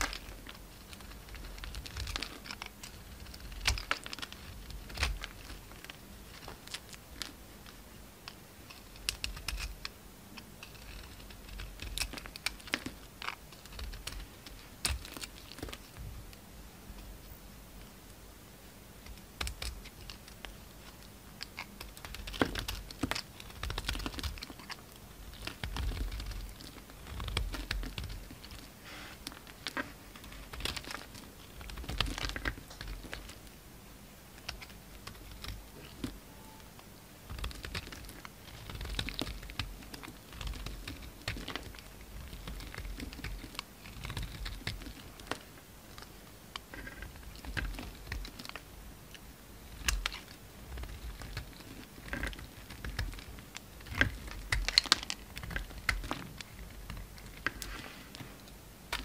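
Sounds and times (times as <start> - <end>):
knife shaving soap: 0.0 - 15.9, 19.0 - 33.5, 37.3 - 57.8.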